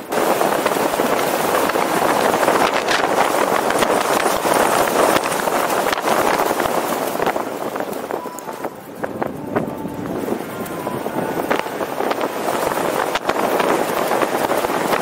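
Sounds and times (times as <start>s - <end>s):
road and tyre noise: 0.0s - 15.0s
small crackles: 0.0s - 15.0s
wind rushing over microphone: 0.0s - 15.0s.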